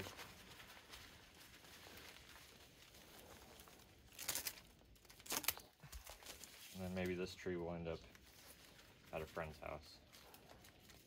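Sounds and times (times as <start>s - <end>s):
paper rustling: 0.0s - 11.0s
plastic tape crinkling: 0.0s - 11.0s.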